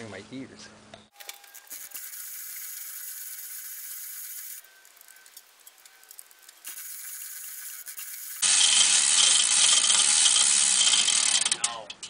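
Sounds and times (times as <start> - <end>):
chain rattling through hoist: 1.2 - 12.0.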